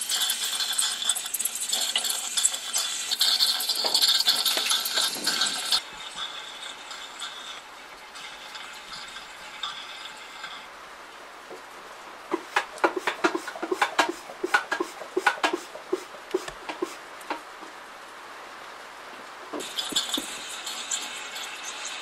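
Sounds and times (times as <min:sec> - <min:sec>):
oil gurgling and dripping: 0:00.0 - 0:18.0, 0:19.5 - 0:22.0.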